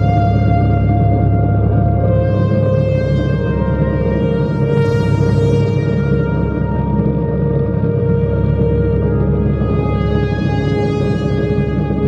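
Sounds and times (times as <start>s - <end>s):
ambient music with held tones: 0.0s - 12.0s.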